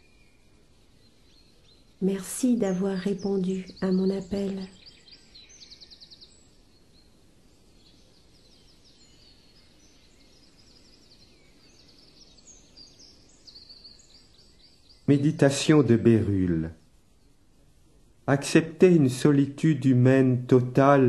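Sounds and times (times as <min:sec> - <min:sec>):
birds chirping: 0:00.0 - 0:21.0
low hiss: 0:00.0 - 0:21.0.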